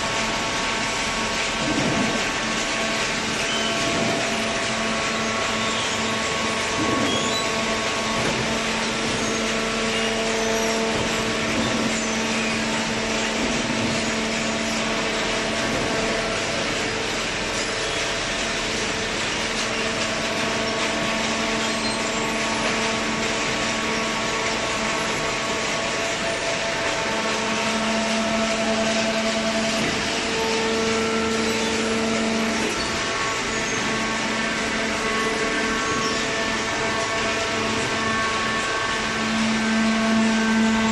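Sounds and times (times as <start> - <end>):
baler motor and pump humming: 0.0 - 40.9.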